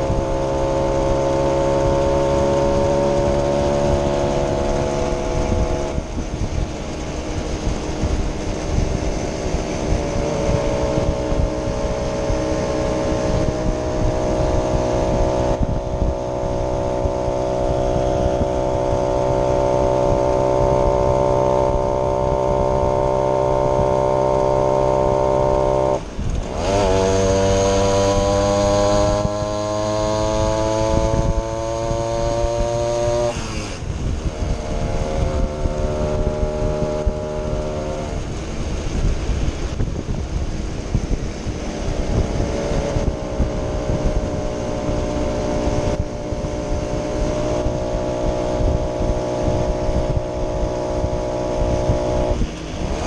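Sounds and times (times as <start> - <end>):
moped engine running: 0.0 - 53.0.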